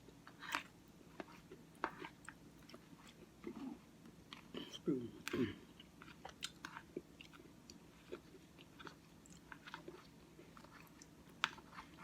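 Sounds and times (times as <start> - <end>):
close chewing with mouth clicks: 0.0 - 12.0.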